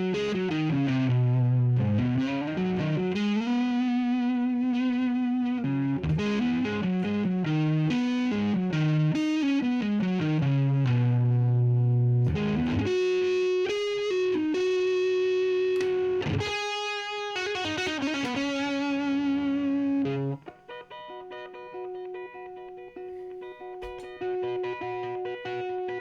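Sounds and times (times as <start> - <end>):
electric guitar playing: 0.0 - 26.0
looped guitar riff: 0.0 - 26.0.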